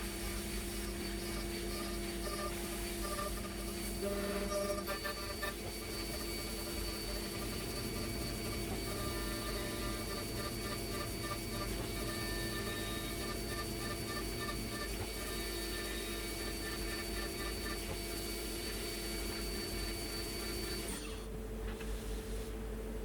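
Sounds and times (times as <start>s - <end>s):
milling machine spindle whine: 0.0s - 21.4s.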